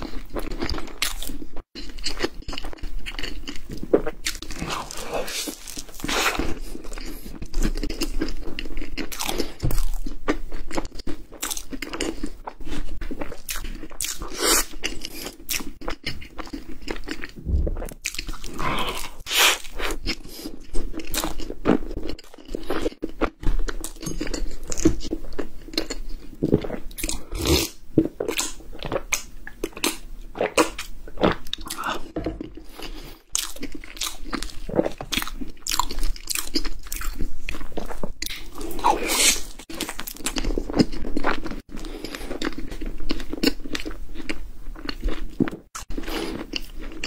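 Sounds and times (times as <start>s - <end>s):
crunchy bites and chewing: 0.0s - 47.0s.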